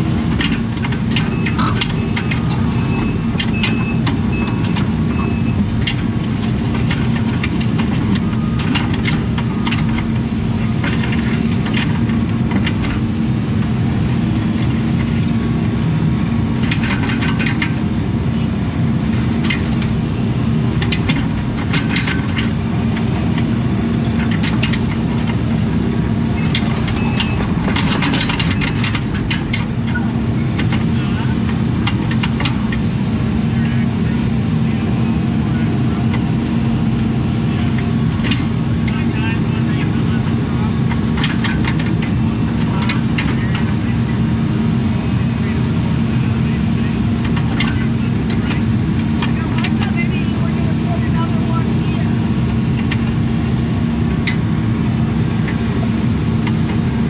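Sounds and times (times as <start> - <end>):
excavator clanks and rattles: 0.0 - 57.0
excavator diesel engine running: 0.0 - 57.0.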